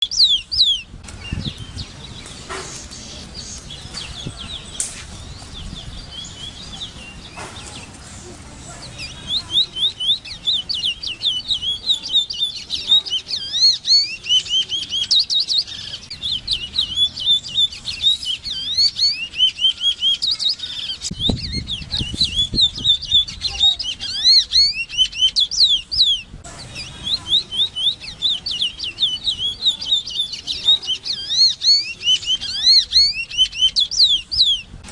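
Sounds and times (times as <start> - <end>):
bird warbling song: 0.0 - 34.8.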